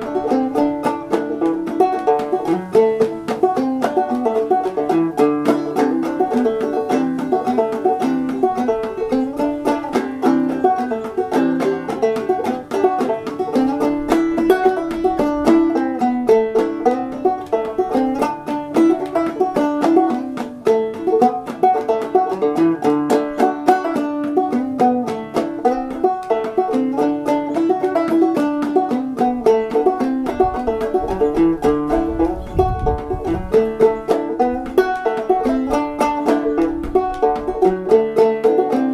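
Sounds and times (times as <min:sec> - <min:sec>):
banjo played clawhammer style: 0:00.0 - 0:38.9.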